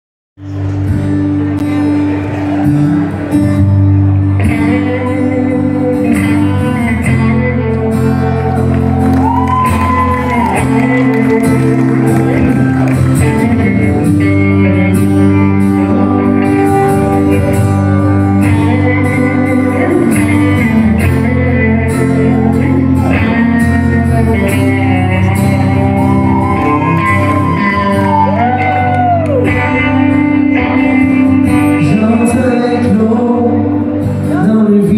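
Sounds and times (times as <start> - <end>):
live country band playing: 0.4 - 34.9.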